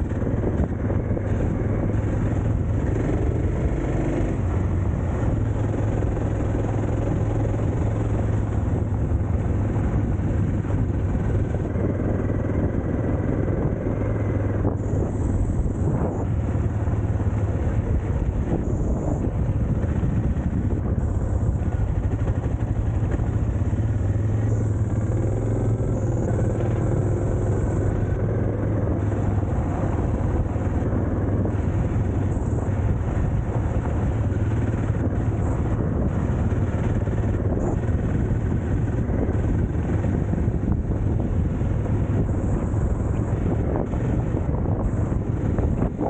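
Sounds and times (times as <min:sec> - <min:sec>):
motorcycle engine droning: 0:00.0 - 0:46.0
road noise: 0:00.0 - 0:46.0.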